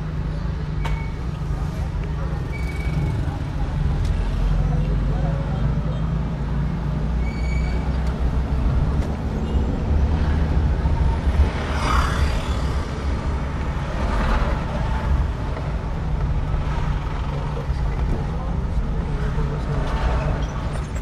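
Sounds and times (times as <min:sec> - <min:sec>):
car engine and tyre rumble: 0:00.0 - 0:21.0
passing traffic: 0:00.0 - 0:21.0.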